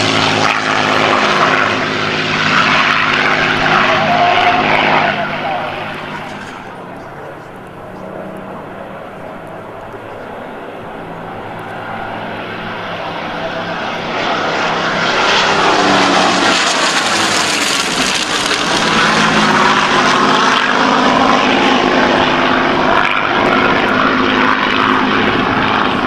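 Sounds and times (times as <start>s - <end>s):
propeller planes flying past: 0.0s - 26.0s.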